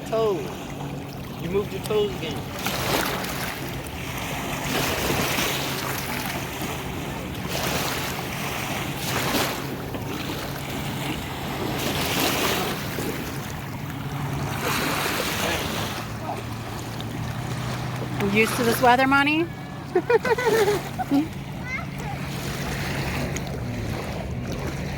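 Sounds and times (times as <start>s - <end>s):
low hum: 0.0s - 24.9s
small waves washing on beach: 0.0s - 24.9s.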